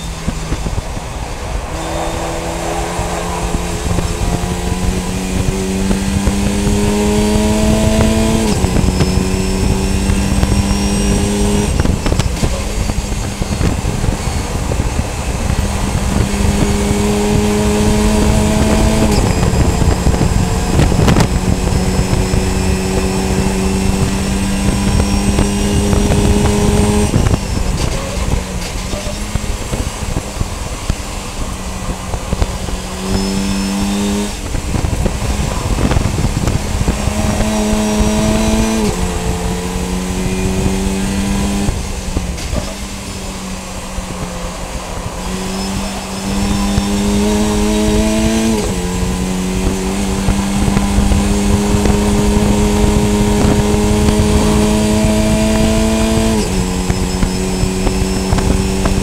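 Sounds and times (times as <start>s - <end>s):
race car engine under load: 0.0s - 59.0s
road and wind rumble: 0.0s - 59.0s.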